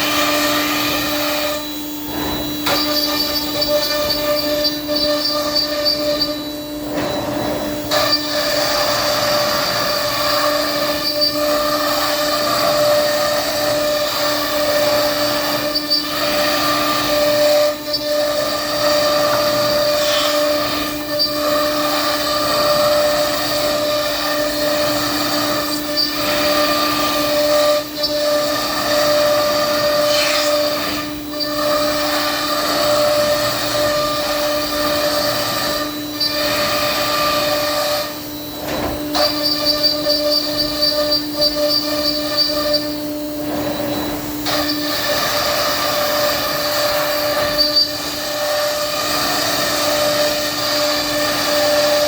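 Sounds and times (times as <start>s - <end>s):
cnc router spindle whine: 0.0s - 52.0s.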